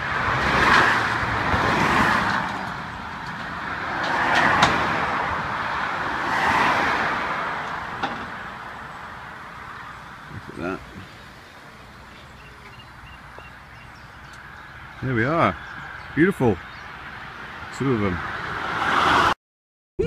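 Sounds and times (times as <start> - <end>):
vehicles passing: 0.0 - 19.4.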